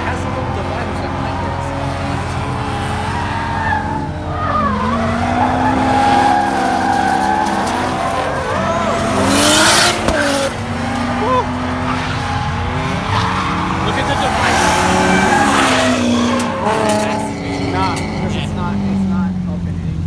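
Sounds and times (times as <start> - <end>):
tyres squealing: 0.0 - 18.7
car engines revving: 0.0 - 20.0
rushing tyre noise: 0.0 - 20.0.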